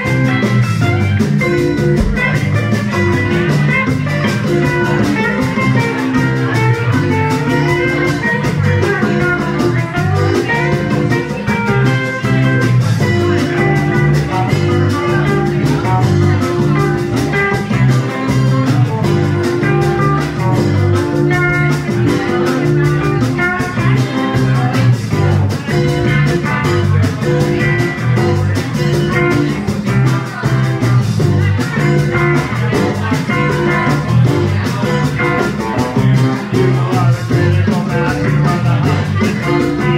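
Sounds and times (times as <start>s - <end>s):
acoustic guitar: 0.0s - 39.9s
drum kit: 0.0s - 39.9s.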